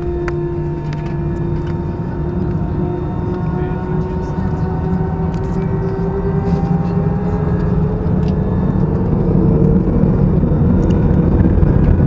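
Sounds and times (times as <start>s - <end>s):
jet airliner cabin rumble: 0.0s - 12.0s
thin jet engine tone: 0.0s - 12.0s.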